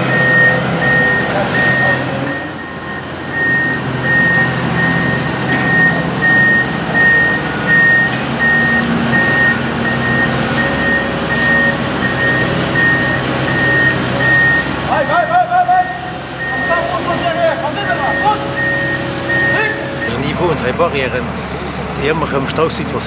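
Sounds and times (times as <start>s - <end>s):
reversing alarm beeping: 0.0s - 20.2s
machine engines droning: 0.0s - 23.0s.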